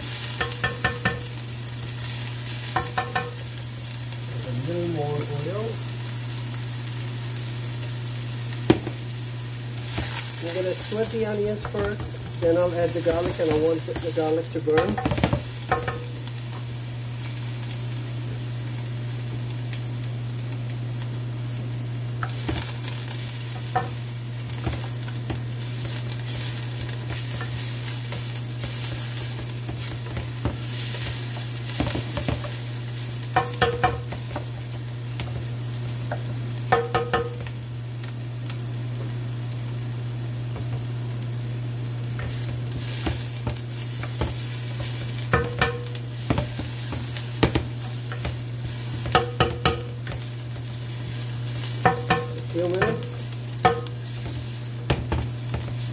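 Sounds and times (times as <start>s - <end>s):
onions sizzling in oil: 0.0s - 55.9s.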